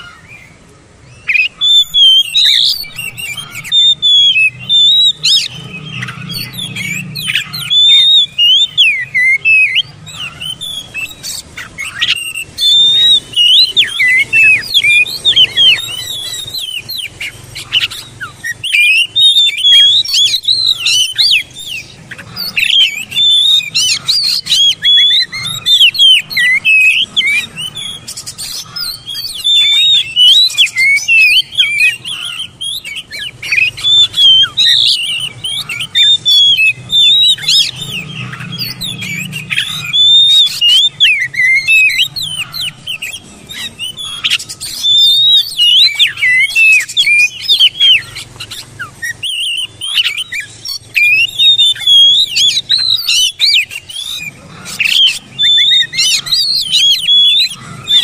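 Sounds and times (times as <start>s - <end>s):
bird singing whistled song: 0.0s - 58.0s.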